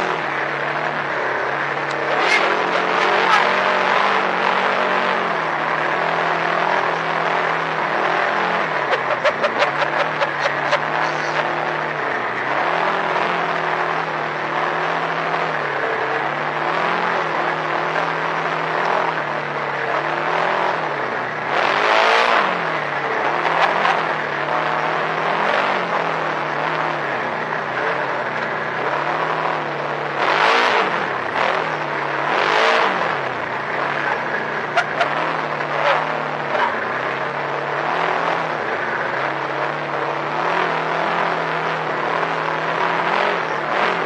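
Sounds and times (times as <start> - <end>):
loud rush of noise: 0.0 - 44.0
vehicle engine running: 0.0 - 44.0.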